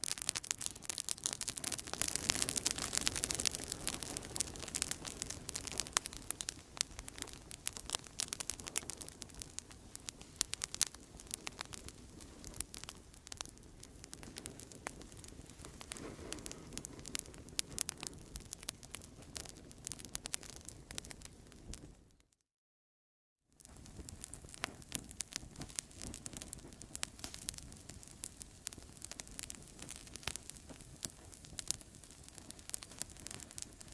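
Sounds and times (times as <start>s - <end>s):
rush of flame: 0.0s - 21.8s, 23.6s - 33.9s
burning wood popping: 0.0s - 22.0s, 23.6s - 33.9s
campfire crackling: 0.0s - 22.1s, 23.6s - 33.9s.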